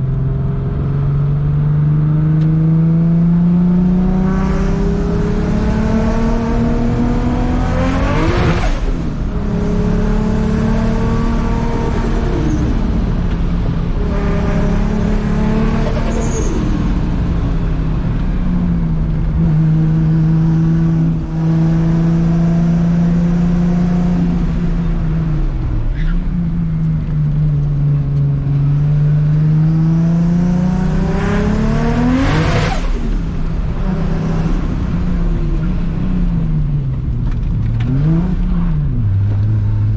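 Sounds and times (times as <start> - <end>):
car engine revving: 0.2 - 39.9.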